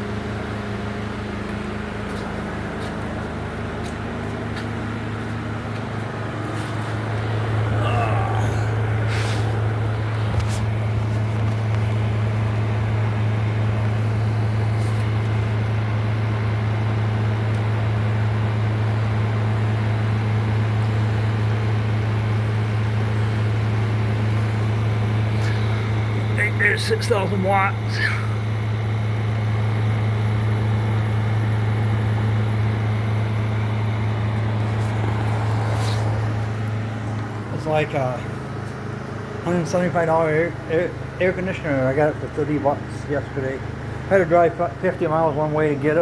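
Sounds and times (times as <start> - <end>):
portable generator humming: 0.0 - 46.0.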